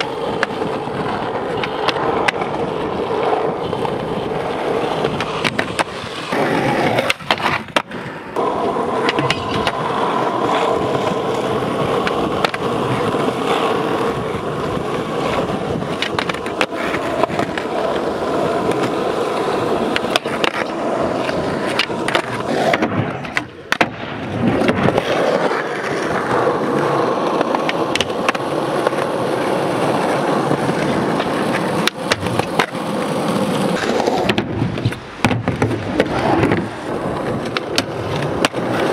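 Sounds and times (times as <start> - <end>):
skateboard clacks: 0.0 - 38.9
skateboard grinding on concrete: 0.0 - 38.9
skateboard wheels rolling on asphalt: 0.0 - 38.9.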